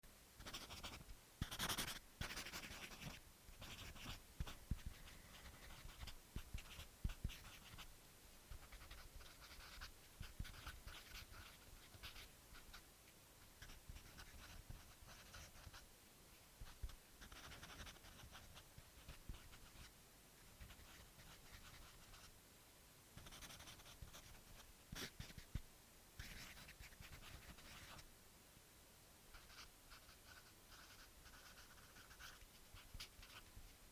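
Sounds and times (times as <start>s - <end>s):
marker scribbling on paper: 0.4s - 7.9s, 8.5s - 12.8s, 13.6s - 15.8s, 16.6s - 19.9s, 20.6s - 22.3s, 23.2s - 25.5s, 26.2s - 28.0s, 29.3s - 33.5s.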